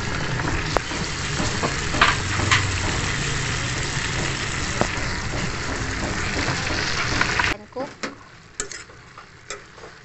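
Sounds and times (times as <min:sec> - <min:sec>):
vegetables sizzling in pan: 0:00.0 - 0:10.0.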